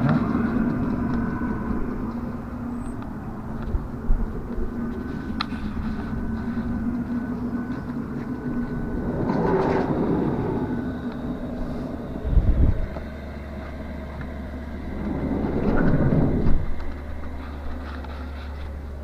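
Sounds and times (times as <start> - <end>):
parking heater fan and burner hum: 0.0 - 19.0.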